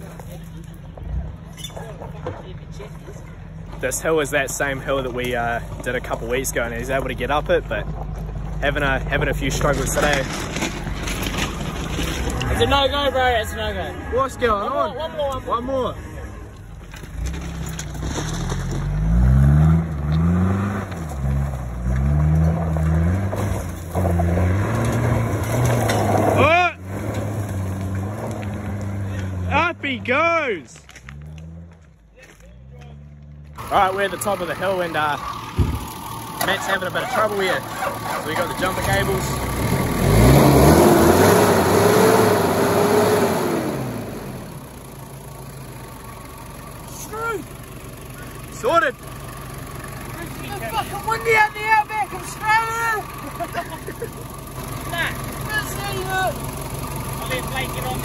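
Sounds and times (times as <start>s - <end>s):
gravel crunching under tyres: 0.0s - 58.0s
off-road engine revving: 0.0s - 58.0s.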